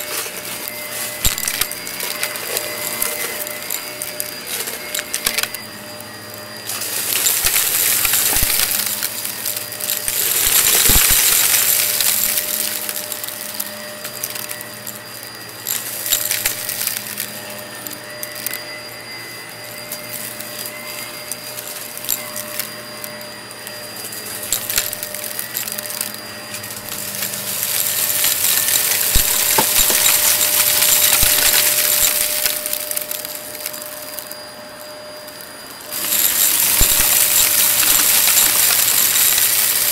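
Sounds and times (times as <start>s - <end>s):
debris rattling up vacuum hose: 0.0s - 18.6s, 19.5s - 34.4s, 35.3s - 39.9s
vacuum cleaner motor whine: 0.0s - 39.9s.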